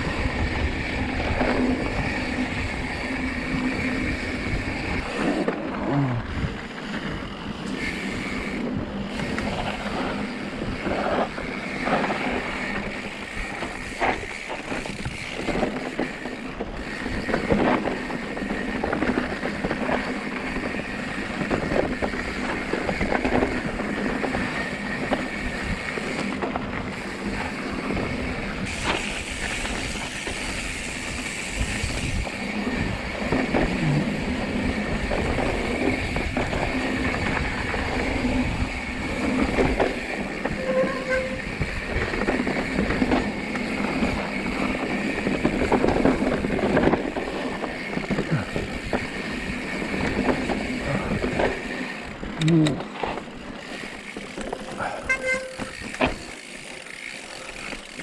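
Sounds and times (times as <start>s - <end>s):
bike knocking and rattling: 0.0s - 58.0s
bike tyres rolling on trail: 0.0s - 58.0s.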